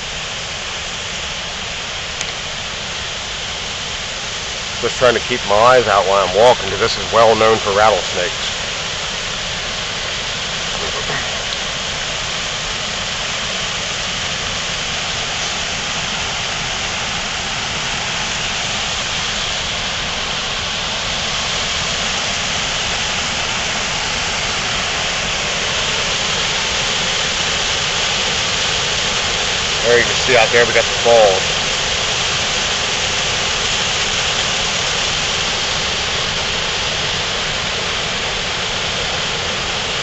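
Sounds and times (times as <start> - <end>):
water rushing over spillway: 0.0 - 40.0.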